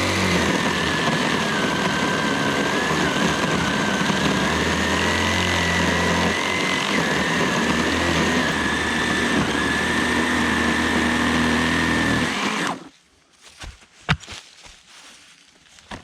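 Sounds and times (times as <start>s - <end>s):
electric chainsaw whining: 0.0s - 12.9s.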